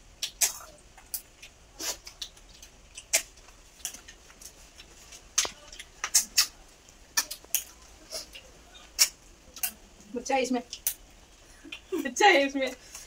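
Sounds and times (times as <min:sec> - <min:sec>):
eating clicks and smacks: 0:00.1 - 0:11.9.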